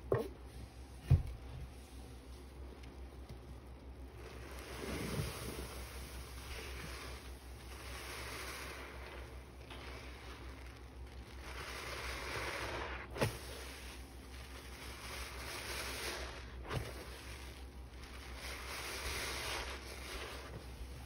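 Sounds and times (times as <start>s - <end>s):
sponge squelching with lather: 4.0s - 21.0s.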